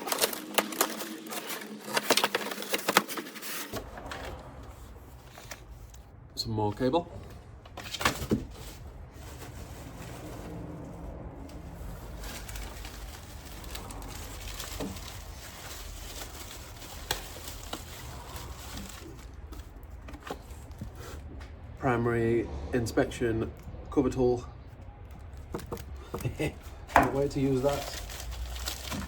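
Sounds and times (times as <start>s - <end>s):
parts and packaging handled: 0.0s - 21.7s, 24.6s - 29.0s.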